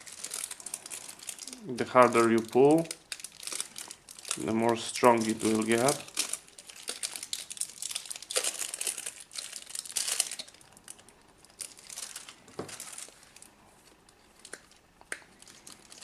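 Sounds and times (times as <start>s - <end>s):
tape crinkling and crackling: 0.0s - 16.0s.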